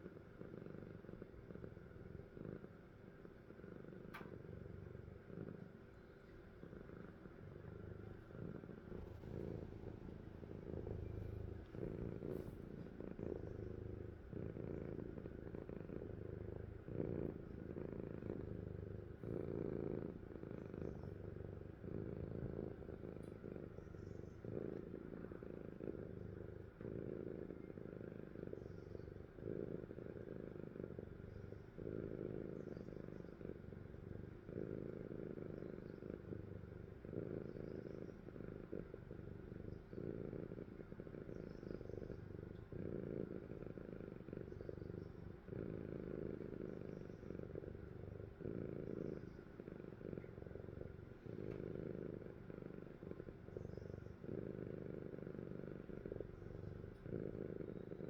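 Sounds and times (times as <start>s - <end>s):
cat snoring: 0.0s - 58.0s.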